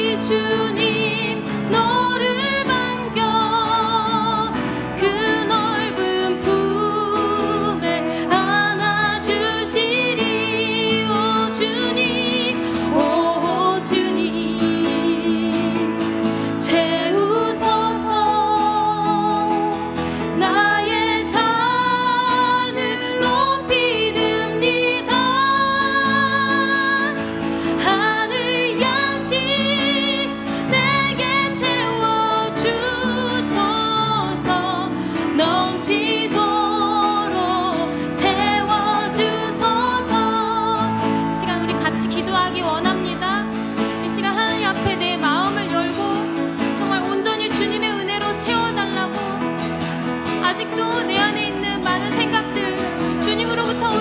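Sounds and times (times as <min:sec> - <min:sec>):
woman singing worship song: 0:00.0 - 0:49.6, 0:50.3 - 0:54.0
keyboard accompaniment: 0:00.0 - 0:54.0.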